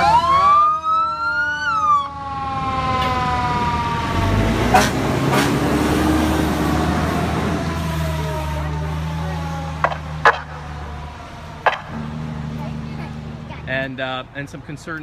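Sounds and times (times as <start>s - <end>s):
emergency vehicle siren: 0.0s - 13.5s
heavy vehicle engine revving: 2.2s - 14.4s.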